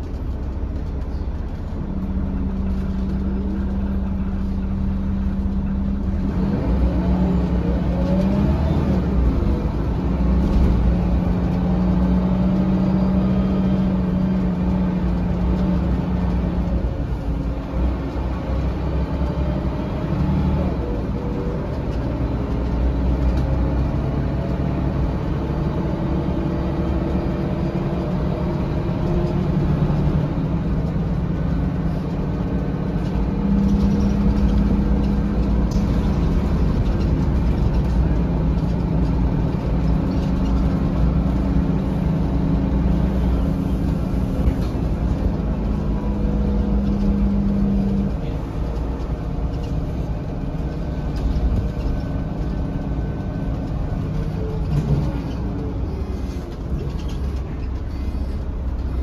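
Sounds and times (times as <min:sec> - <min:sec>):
bus engine running: 0:00.0 - 0:59.0
road rumble: 0:00.0 - 0:59.0.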